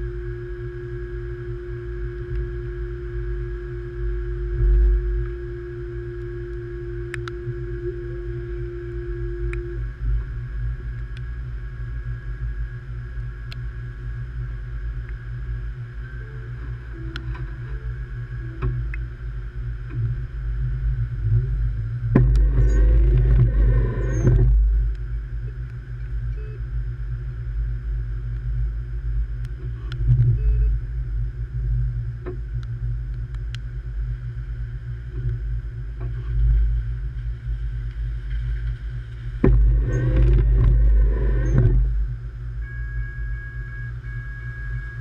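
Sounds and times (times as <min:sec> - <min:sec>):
train equipment humming: 0:00.0 - 0:45.0.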